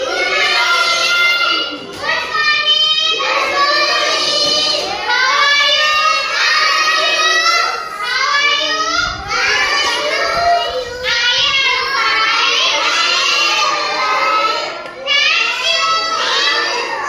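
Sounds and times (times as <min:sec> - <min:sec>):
children singing a chant: 0:00.0 - 0:17.0.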